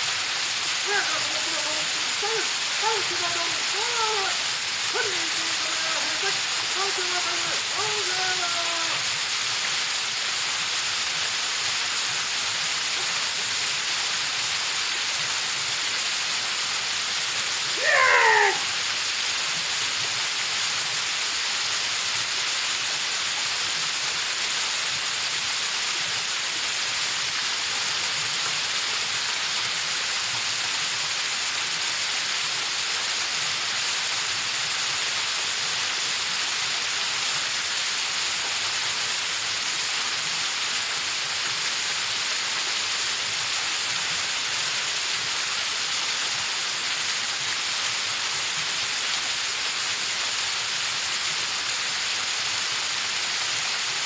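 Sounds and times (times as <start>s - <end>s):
waterfall splashing onto rock: 0.0s - 54.0s.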